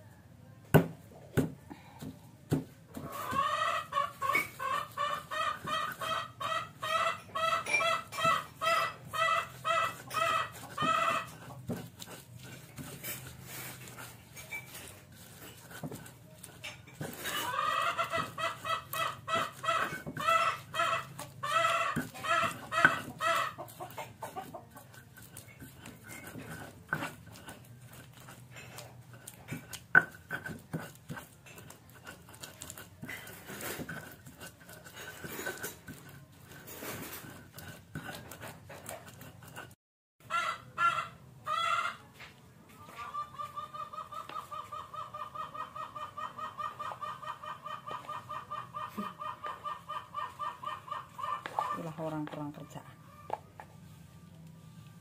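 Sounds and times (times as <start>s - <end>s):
chicken clucking: 3.0s - 13.0s, 13.7s - 29.6s, 30.7s - 53.8s.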